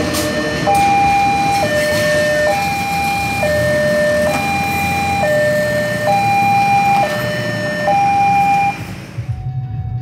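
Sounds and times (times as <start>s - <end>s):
level crossing two-tone alarm: 0.0s - 9.9s.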